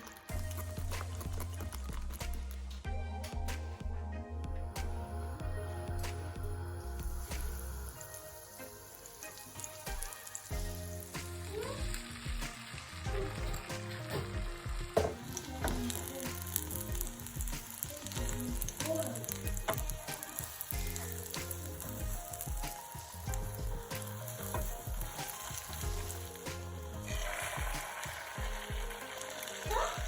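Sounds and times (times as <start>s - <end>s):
egg sizzling in a pan: 0.0s - 2.4s, 6.4s - 30.0s.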